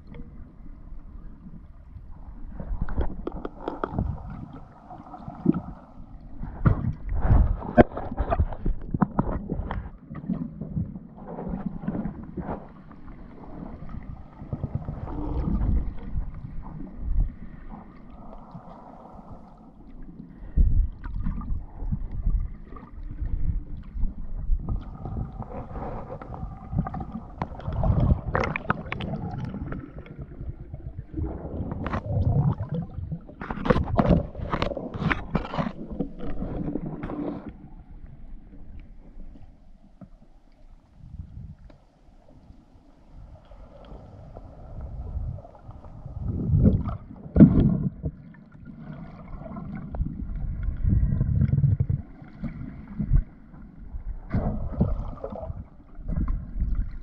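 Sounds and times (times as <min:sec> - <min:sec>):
water swishing underwater: 0:00.0 - 0:57.0.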